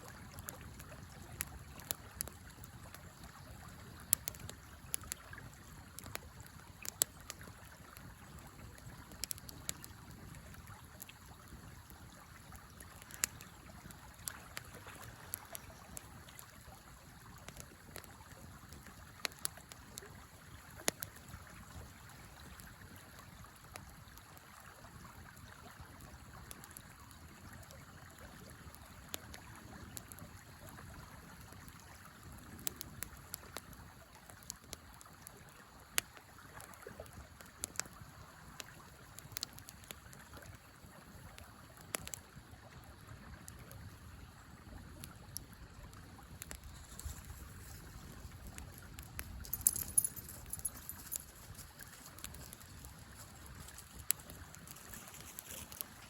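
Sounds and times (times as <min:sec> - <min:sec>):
wood fire crackling and popping: 0:00.0 - 0:24.8, 0:25.9 - 0:42.3, 0:45.0 - 0:56.0.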